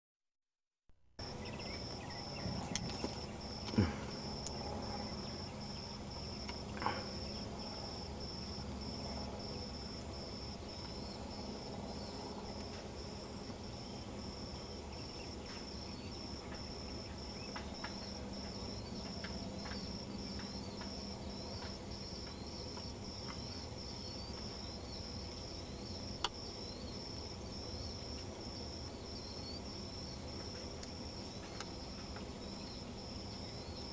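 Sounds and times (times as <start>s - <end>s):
crickets chirping: 1.2s - 33.9s.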